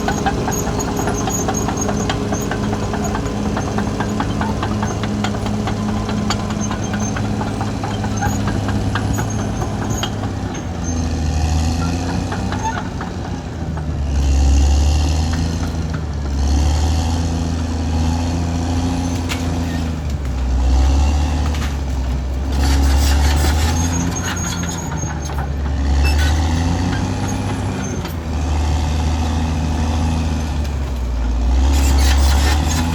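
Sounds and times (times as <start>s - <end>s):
bulldozer diesel engine under load: 0.0s - 32.9s.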